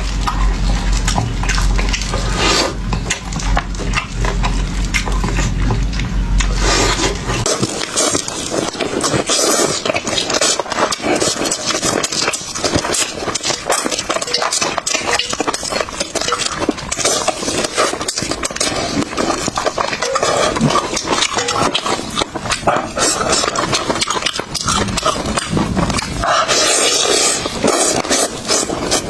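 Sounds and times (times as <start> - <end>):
chewing crunchy food: 0.0 - 29.0.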